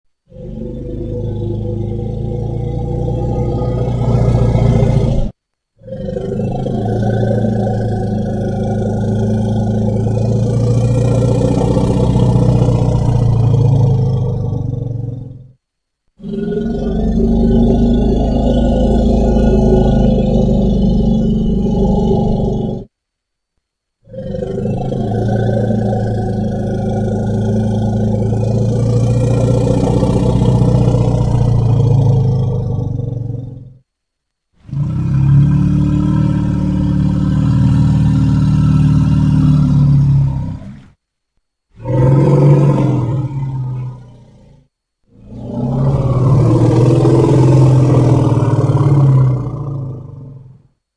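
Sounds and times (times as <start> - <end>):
low rumbling animal call: 0.2 - 15.6, 16.2 - 22.9, 24.0 - 33.8, 34.6 - 41.0, 41.7 - 50.8.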